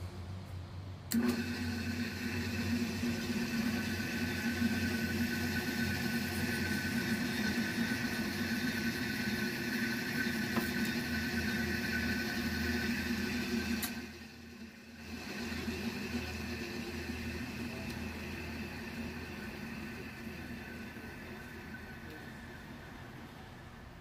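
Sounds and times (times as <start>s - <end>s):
drill press motor hum: 1.1s - 23.2s
drill bit boring wood: 1.2s - 22.8s.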